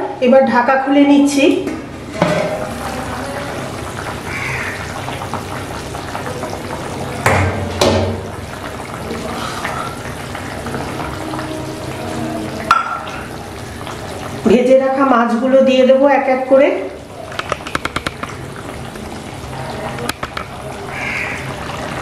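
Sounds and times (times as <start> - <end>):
broth bubbling in a wok: 1.3 - 22.0.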